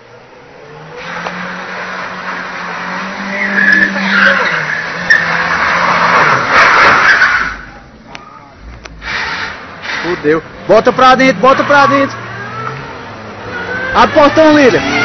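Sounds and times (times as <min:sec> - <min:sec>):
car engine revving hard: 0:00.4 - 0:07.8, 0:08.6 - 0:15.0
tyres squealing and skidding: 0:00.6 - 0:15.0.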